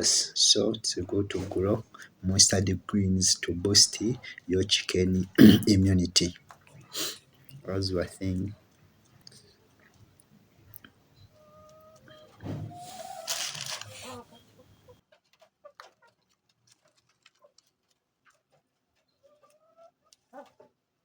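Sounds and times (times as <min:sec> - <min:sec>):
chickens calling: 0:00.0 - 0:20.8.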